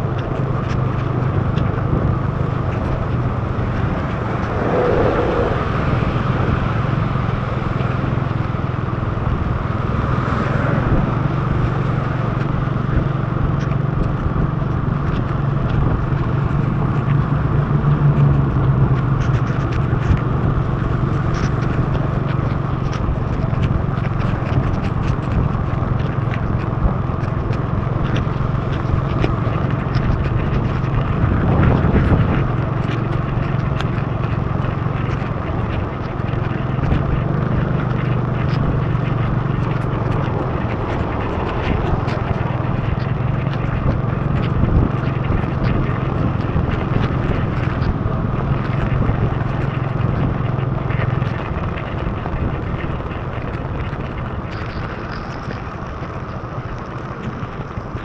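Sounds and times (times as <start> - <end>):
tyres on wet road: 0.0 - 58.0
motorbike engine running: 10.8 - 58.0
raindrops ticking on camera: 11.6 - 58.0.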